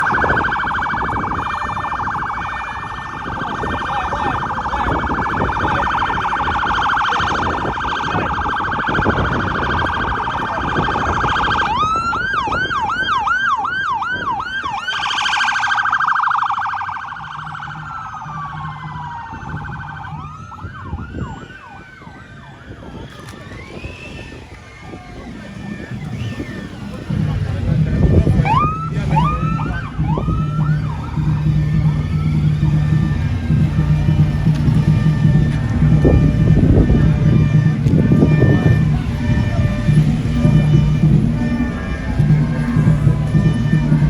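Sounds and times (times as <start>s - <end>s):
siren warbling and whooping: 0.0s - 44.0s.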